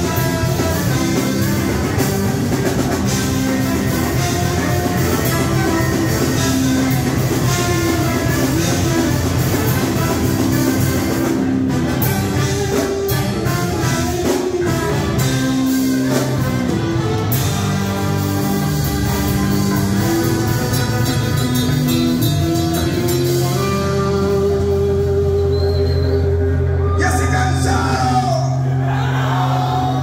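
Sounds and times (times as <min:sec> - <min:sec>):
drum kit beat: 0:00.0 - 0:25.6
trombones holding long notes: 0:00.0 - 0:25.6
electric guitar: 0:00.0 - 0:27.8
electric bass: 0:00.0 - 0:30.0.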